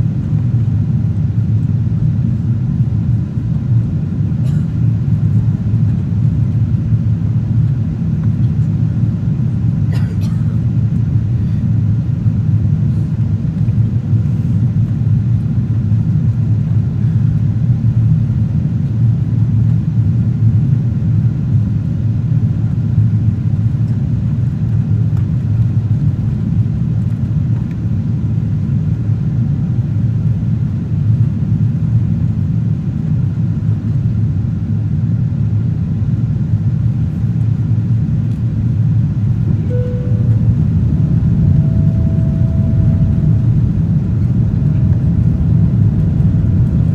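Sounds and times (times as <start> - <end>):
low rumble of airplane engines: 0.0 - 46.9.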